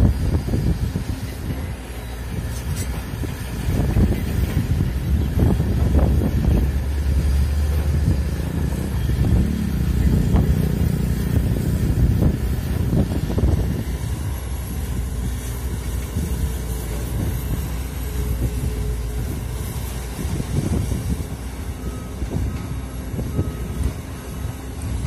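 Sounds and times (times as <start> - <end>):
excavator diesel engine under load: 0.0 - 25.0.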